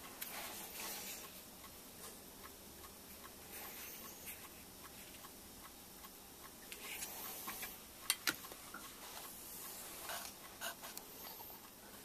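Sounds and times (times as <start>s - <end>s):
faint ticking: 0.0s - 12.0s.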